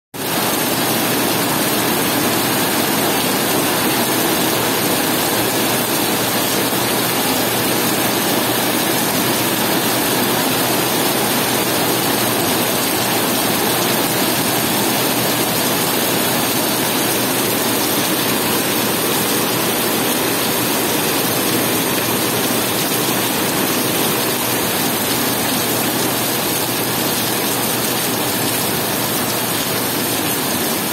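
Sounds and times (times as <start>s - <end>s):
heavy rain on wet asphalt: 0.2s - 30.9s.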